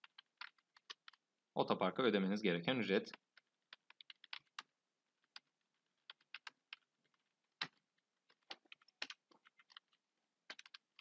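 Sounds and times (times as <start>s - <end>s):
computer keyboard typing: 0.0s - 1.2s, 3.0s - 11.0s.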